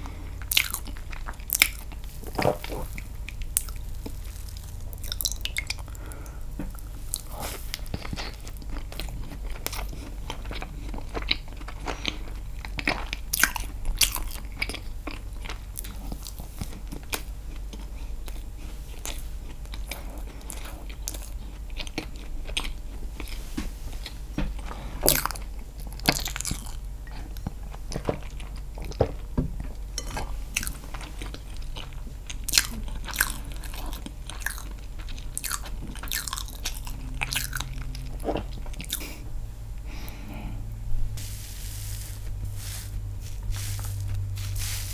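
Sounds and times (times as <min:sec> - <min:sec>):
chewing and biting cake: 0:00.0 - 0:23.4, 0:24.0 - 0:29.3, 0:30.0 - 0:39.3
steady low hum: 0:00.0 - 0:44.9.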